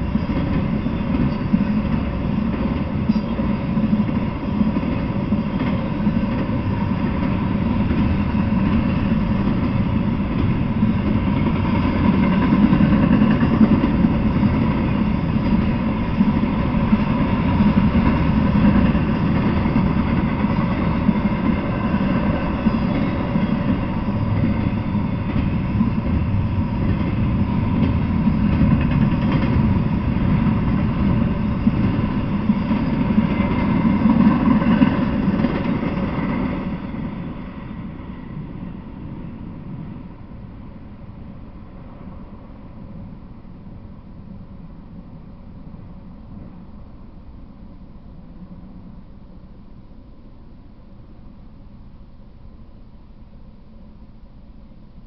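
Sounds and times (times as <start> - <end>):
freight train wheels on track: 0.0 - 55.0.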